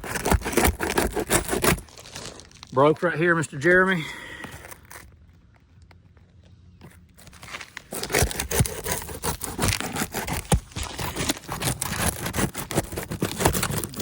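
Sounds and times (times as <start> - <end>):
shingle scraping and cracking: 0.0 - 6.0, 6.8 - 14.0.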